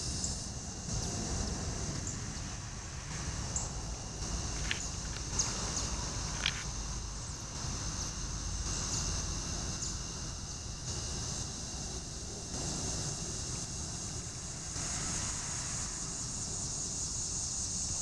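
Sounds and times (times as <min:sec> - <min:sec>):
insect chirps: 0:00.0 - 0:18.0
insects trilling: 0:00.0 - 0:18.0.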